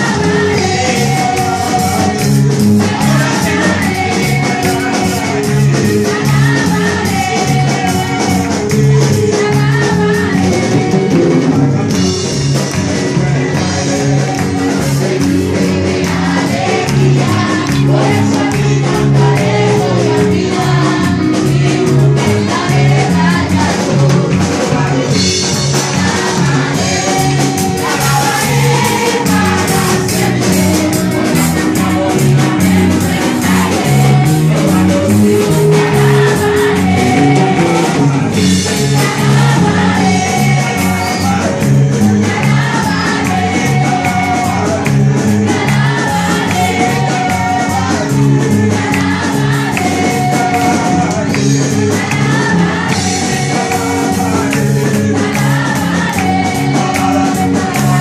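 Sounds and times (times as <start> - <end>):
church band playing: 0.0 - 58.0
congregation singing: 0.0 - 58.0.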